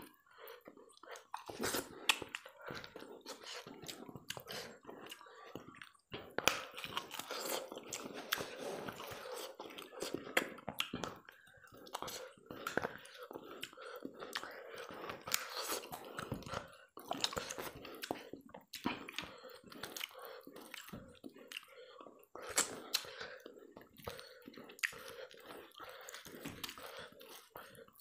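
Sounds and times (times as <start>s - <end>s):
wet chewing and lip smacking: 0.0s - 28.0s.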